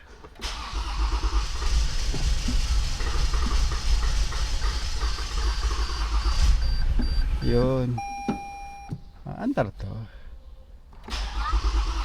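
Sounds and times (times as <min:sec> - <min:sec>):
car engine cranking: 0:00.1 - 0:08.9, 0:10.9 - 0:12.0.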